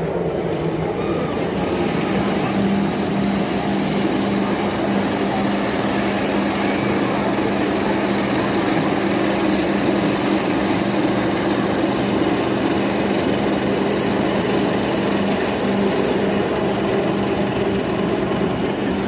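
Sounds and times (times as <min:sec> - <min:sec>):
roller coaster lift hill drone: 0:00.0 - 0:19.0.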